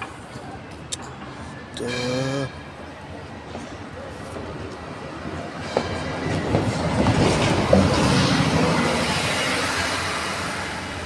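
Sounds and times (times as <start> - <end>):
tram rumbling along track: 0.0 - 11.0.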